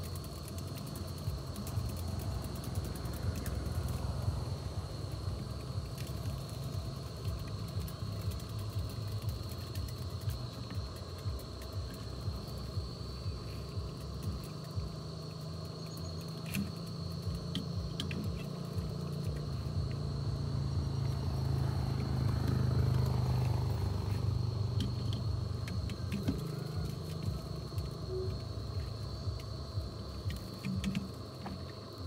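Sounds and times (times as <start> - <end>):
low rumble: 0.0 - 31.9
high-pitched insect drone: 0.0 - 32.0.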